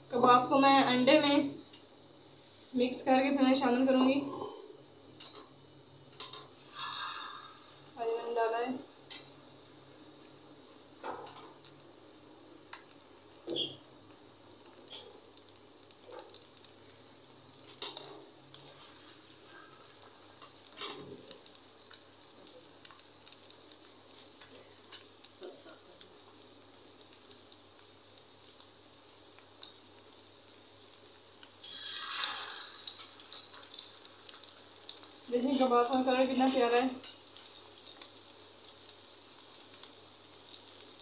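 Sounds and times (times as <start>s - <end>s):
patties sizzling with crackles: 0.0s - 41.0s.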